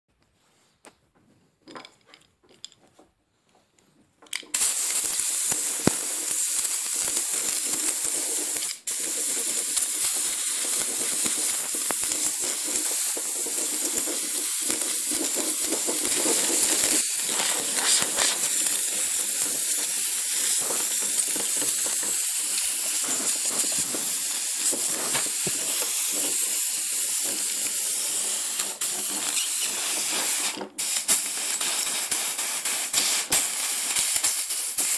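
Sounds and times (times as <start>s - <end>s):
air blow gun hissing: 4.5s - 34.9s.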